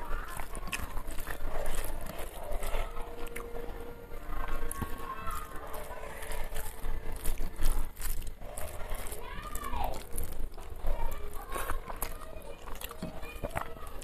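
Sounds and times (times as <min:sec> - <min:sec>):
fingers mashing rice on a plate: 0:00.0 - 0:14.0.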